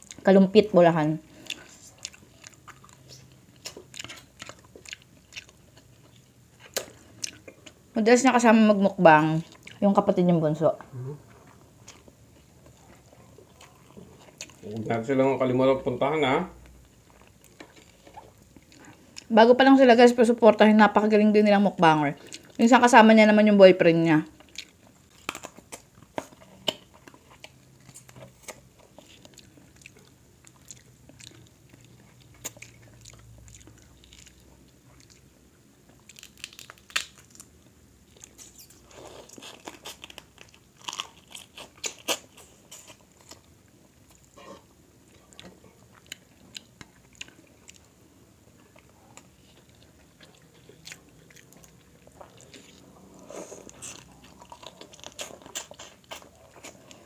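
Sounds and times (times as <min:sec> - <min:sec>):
chewing seafood: 0:01.2 - 0:07.9, 0:09.2 - 0:10.0, 0:10.8 - 0:15.0, 0:16.6 - 0:19.3, 0:22.1 - 0:22.7, 0:24.3 - 0:57.0.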